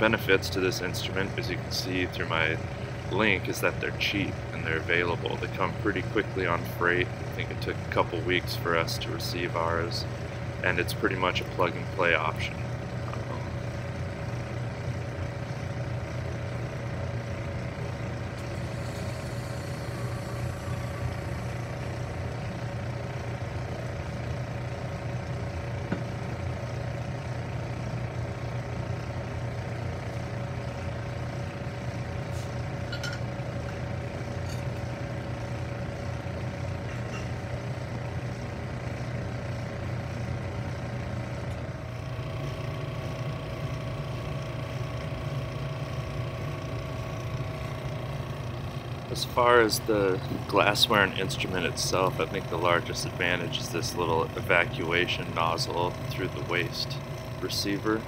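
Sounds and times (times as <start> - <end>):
laboratory equipment humming: 0.0 - 58.0.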